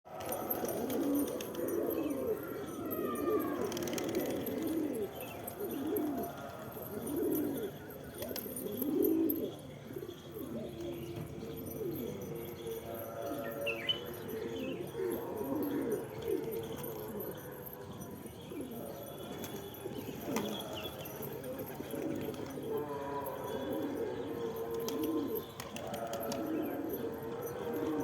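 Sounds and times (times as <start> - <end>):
pigeons cooing: 0.1 - 28.0.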